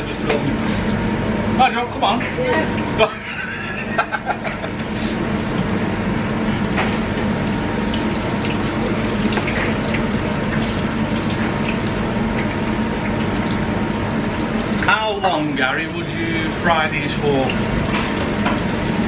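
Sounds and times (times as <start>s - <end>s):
fryer low hum: 0.0s - 19.0s
oil bubbling and sizzling in fryer: 0.0s - 19.0s.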